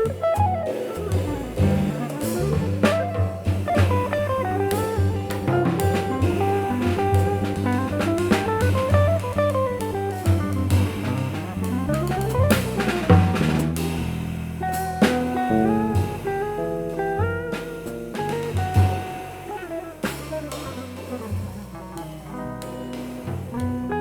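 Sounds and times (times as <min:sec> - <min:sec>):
drums with rimshots: 0:00.0 - 0:24.0
guitar melodic runs: 0:00.0 - 0:24.0
walking bass line: 0:00.0 - 0:24.0.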